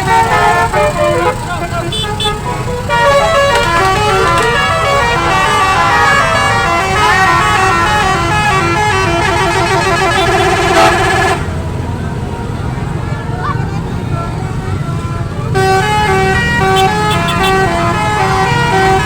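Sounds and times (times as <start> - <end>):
multi-tone air horn melody: 0.0 - 11.6, 14.7 - 19.0
low engine rumble: 0.0 - 19.0.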